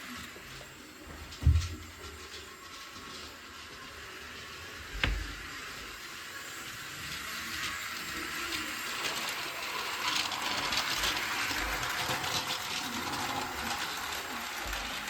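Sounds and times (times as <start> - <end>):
toy train motor clicking and rattling: 1.8 - 15.0.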